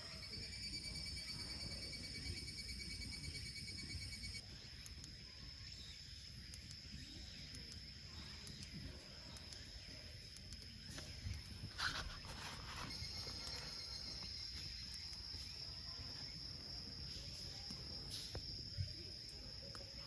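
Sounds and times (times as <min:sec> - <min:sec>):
pulsing insect call: 0:00.0 - 0:20.0
steady high insect trill: 0:00.0 - 0:20.0.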